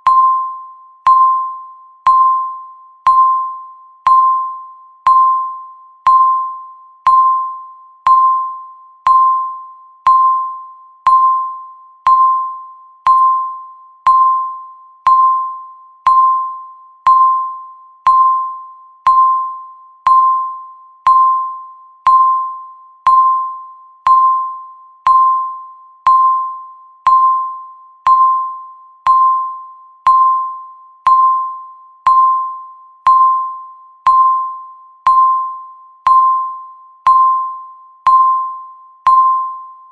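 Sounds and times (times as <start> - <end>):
timer ticking beeps: 0.0 - 39.9.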